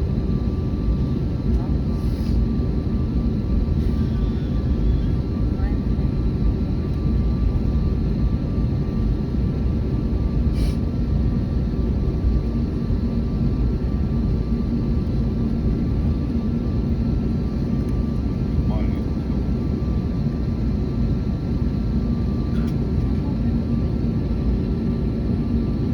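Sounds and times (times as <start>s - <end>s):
jet engines rumbling: 0.0s - 25.9s.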